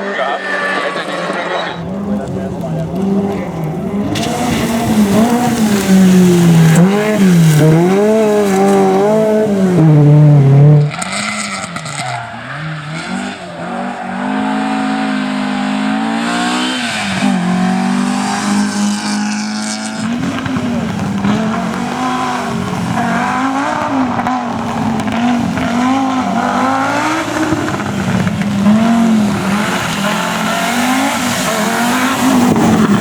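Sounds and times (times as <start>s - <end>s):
rally car engine revving: 0.0s - 33.0s
rally car engine running steadily: 0.9s - 33.0s.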